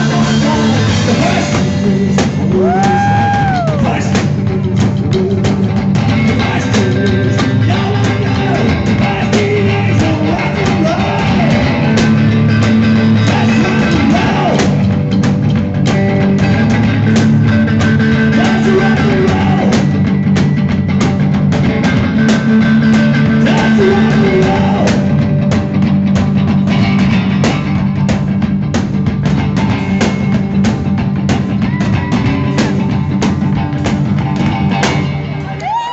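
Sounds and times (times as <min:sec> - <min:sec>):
drum kit: 0:00.0 - 0:35.9
electric guitar: 0:00.0 - 0:35.9
upright double bass: 0:00.0 - 0:35.9.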